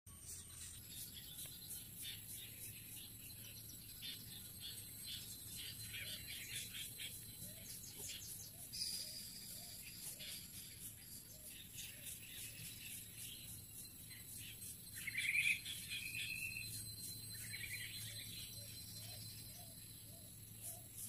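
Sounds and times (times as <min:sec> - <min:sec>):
bird chirping: 0:00.1 - 0:21.0
high insect drone: 0:00.1 - 0:21.0.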